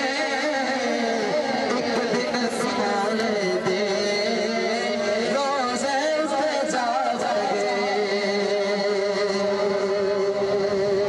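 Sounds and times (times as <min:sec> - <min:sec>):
men singing through pa system: 0:00.0 - 0:11.0.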